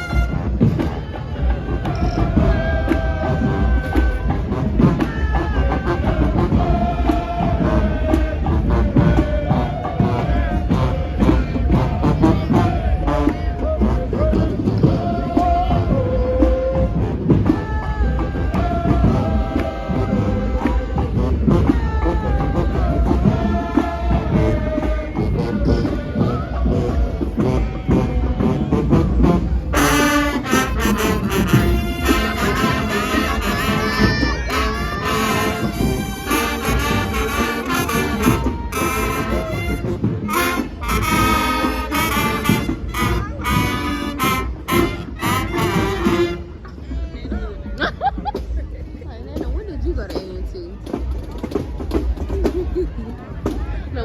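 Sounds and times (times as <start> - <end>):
brass band music: 0.0 - 46.8.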